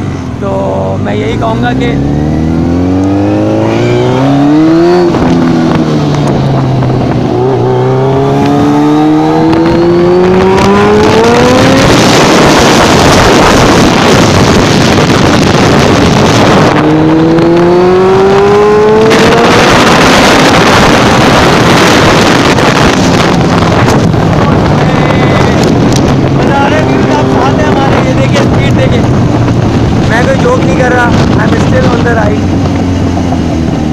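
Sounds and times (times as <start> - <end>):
motorcycle engine accelerating: 0.0 - 33.9
wind rushing on microphone: 0.0 - 33.9.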